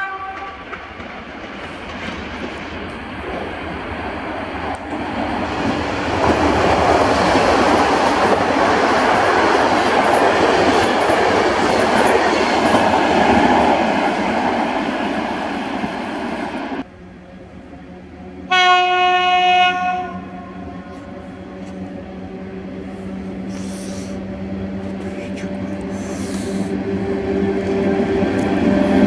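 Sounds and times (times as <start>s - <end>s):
electric train passing at speed: 0.0s - 29.0s
train wheels rushing on rails: 0.0s - 29.0s.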